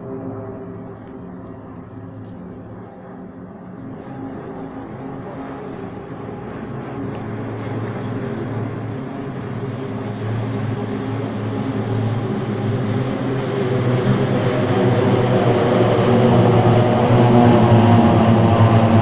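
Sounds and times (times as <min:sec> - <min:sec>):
propeller aircraft drone overhead: 0:00.0 - 0:19.0.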